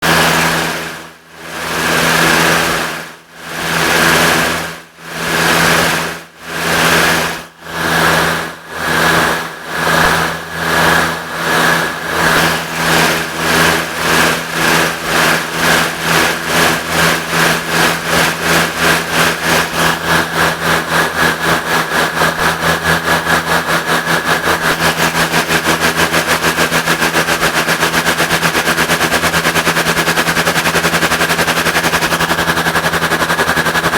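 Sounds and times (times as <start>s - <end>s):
steady hum: 5.3s - 33.9s
synthesized steam locomotive chuffing: 5.3s - 33.9s.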